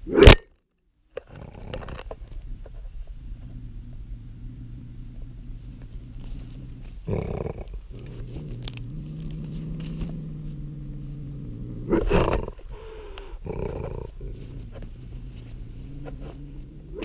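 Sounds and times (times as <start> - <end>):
bobcat growling: 1.2 - 17.0
bobcat snarling: 1.3 - 17.0.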